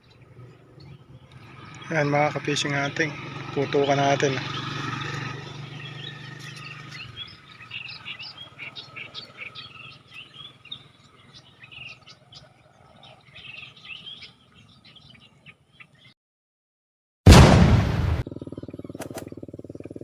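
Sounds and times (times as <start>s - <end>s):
small birds chirping: 0.0s - 16.2s, 18.2s - 20.0s.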